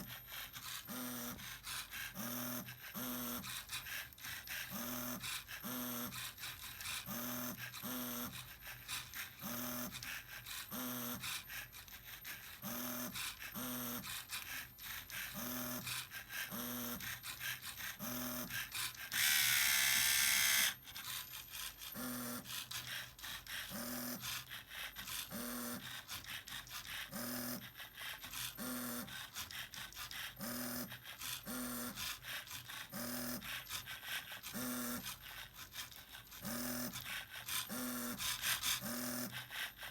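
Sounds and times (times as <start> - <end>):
small electric motors buzzing and rattling: 0.0 - 39.9.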